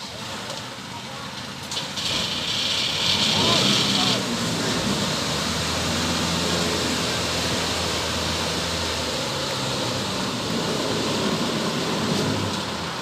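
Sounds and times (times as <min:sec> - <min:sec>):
diesel engine running: 0:00.0 - 0:13.0
tracks churning through mud: 0:00.0 - 0:13.0.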